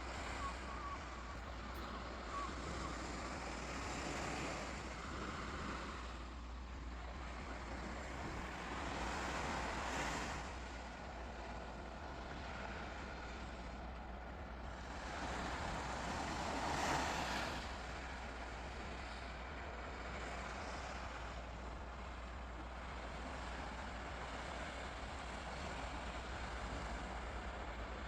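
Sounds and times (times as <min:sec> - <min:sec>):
sea waves washing in: 0:00.0 - 0:28.0.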